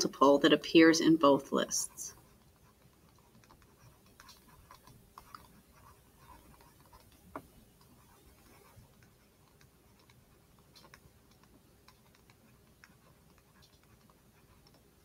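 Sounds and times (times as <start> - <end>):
stylus tapping on tablet screen: 2.3 - 15.0.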